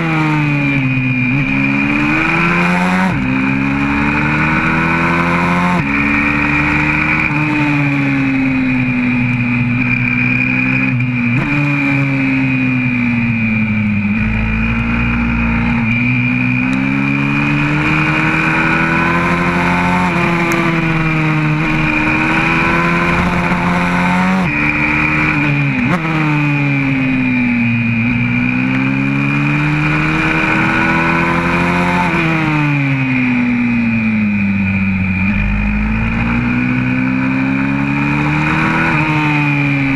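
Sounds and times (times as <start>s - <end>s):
pit bike engine revving through gears: 1.3s - 27.3s, 27.9s - 34.4s, 35.1s - 39.9s.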